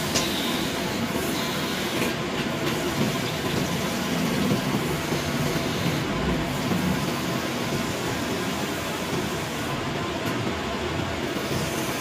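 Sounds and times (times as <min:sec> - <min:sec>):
machine running steadily: 0:00.0 - 0:12.0.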